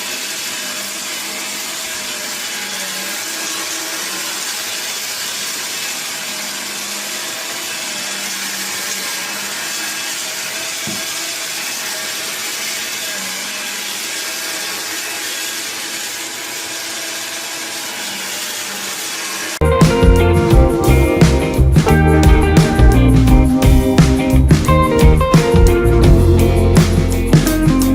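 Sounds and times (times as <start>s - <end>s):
cordless vacuum cleaner running: 0.0s - 27.9s.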